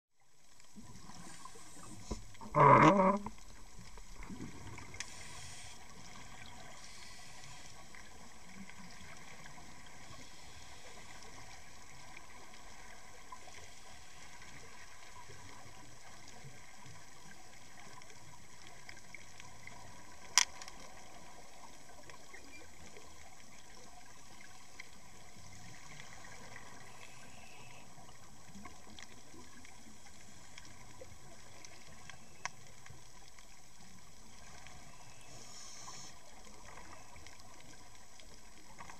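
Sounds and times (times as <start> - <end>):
underwater rush of water: 0.2 - 38.9.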